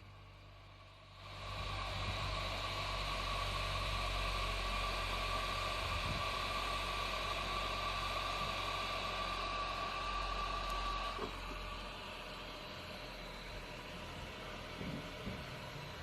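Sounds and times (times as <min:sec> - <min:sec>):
hot air station blowing: 0:00.0 - 0:16.0.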